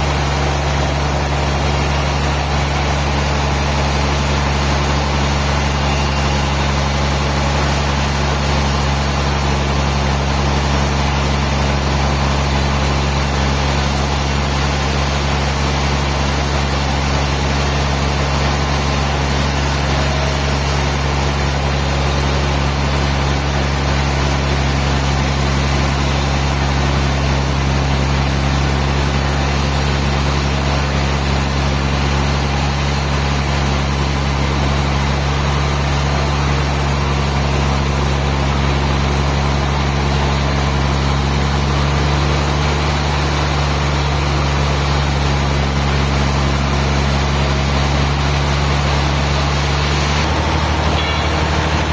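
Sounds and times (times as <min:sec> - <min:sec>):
large engine humming steadily: 0:00.0 - 0:51.9.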